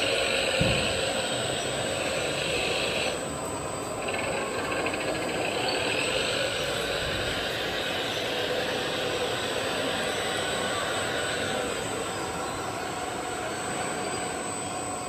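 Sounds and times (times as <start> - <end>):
motor running with hum: 0.0 - 15.0.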